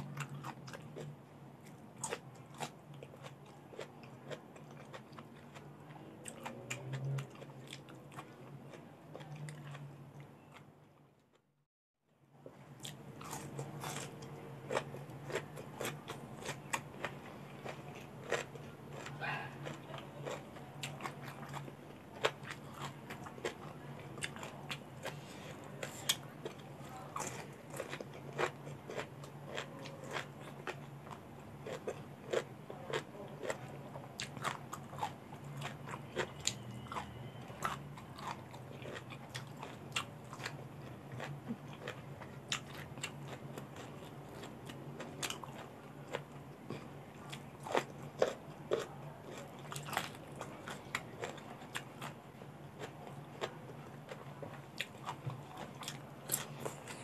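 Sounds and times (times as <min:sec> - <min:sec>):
crunching and chewing vegetables: 0:00.0 - 0:11.5, 0:12.4 - 0:57.0
faint low hum: 0:00.0 - 0:57.0.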